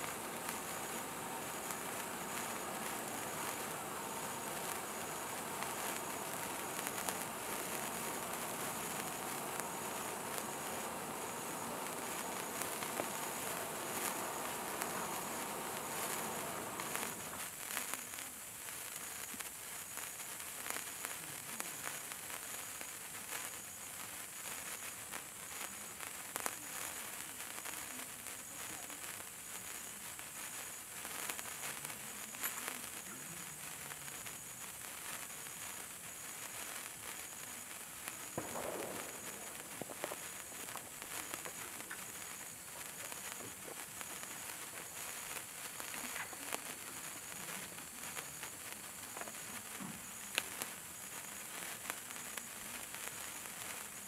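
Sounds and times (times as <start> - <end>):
sparkler fizzing and crackling: 0.0 - 54.0.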